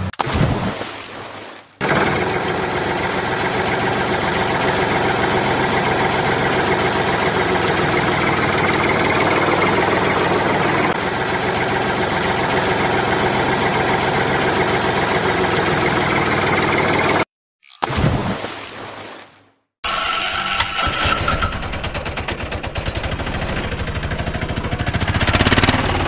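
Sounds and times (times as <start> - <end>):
tractor engine idling with knocking: 1.8 - 17.2, 19.8 - 26.0.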